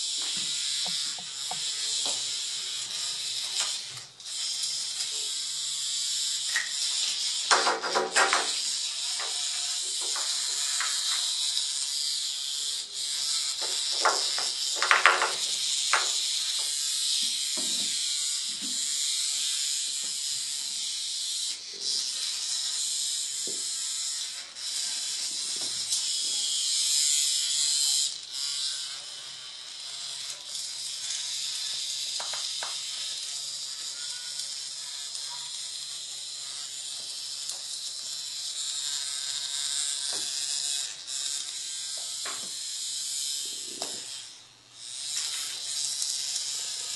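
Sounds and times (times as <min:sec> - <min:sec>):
vibrating toy buzzing on tile: 0:00.0 - 0:46.9.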